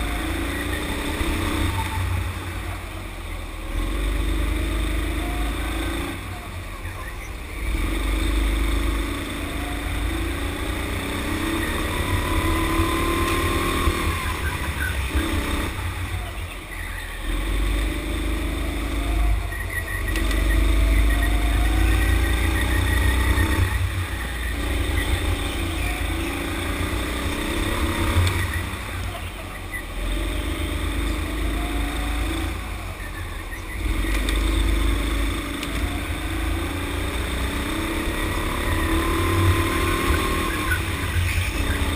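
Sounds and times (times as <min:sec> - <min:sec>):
go-kart motor revving: 0:00.0 - 0:41.9
low rumble of kart: 0:00.0 - 0:41.9.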